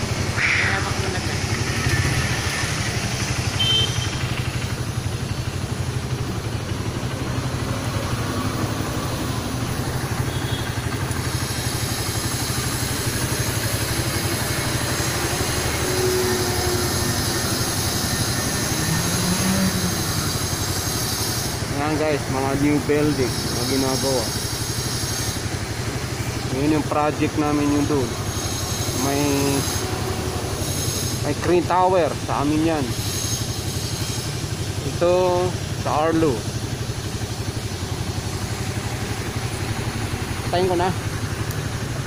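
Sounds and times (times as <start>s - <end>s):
high steady whine: 0.0s - 42.0s
small motorcycle engine running: 0.0s - 42.0s.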